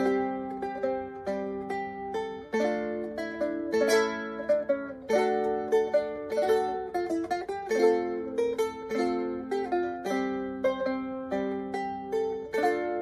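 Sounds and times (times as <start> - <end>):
guitar plucked fingerstyle: 0.0 - 13.0.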